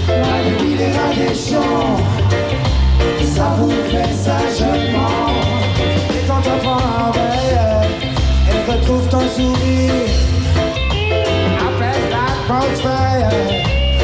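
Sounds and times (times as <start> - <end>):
man singing: 0.0 - 2.5, 3.1 - 10.8, 11.4 - 14.0
drums: 0.0 - 14.0
live reggae band playing: 0.0 - 14.0
pulsing bass line: 0.0 - 14.0.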